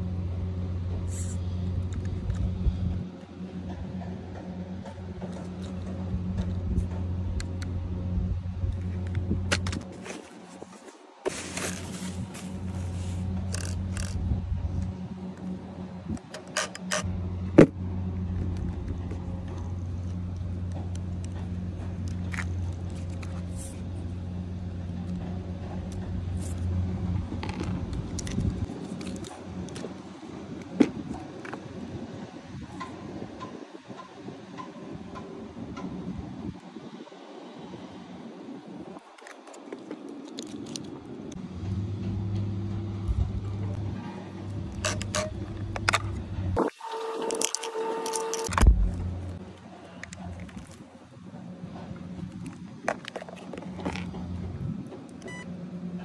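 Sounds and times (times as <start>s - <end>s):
steady low hum: 0.0s - 33.6s, 40.9s - 56.0s.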